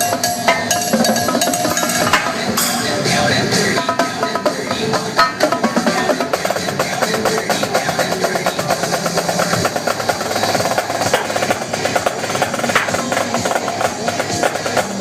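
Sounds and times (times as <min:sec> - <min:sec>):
snare and tom drumming: 0:00.0 - 0:02.8, 0:03.8 - 0:15.0
electronic dance music: 0:00.0 - 0:15.0.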